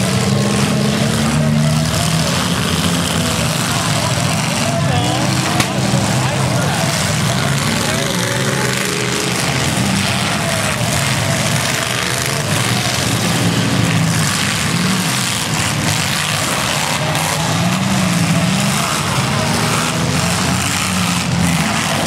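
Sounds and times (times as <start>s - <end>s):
car engines revving loudly: 0.0s - 22.0s.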